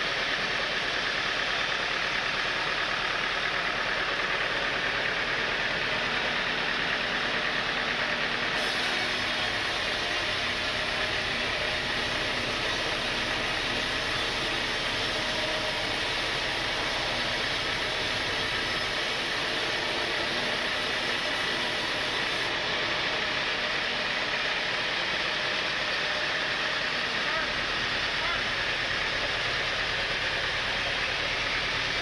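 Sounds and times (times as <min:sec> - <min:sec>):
sawmill machinery hum: 0:00.0 - 0:32.0.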